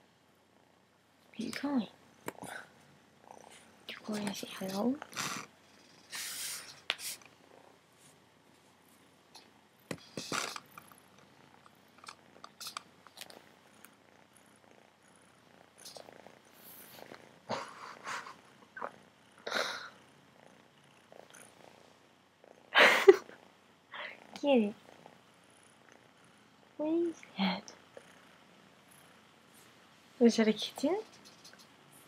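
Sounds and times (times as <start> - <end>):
kitten purring: 0.5 - 7.8, 9.4 - 29.8, 30.4 - 32.0.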